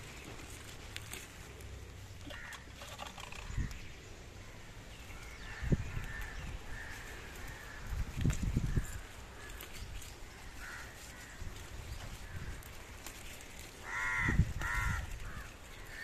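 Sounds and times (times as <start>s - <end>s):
leaves rustling and snapping: 0.0s - 4.0s, 5.1s - 16.0s.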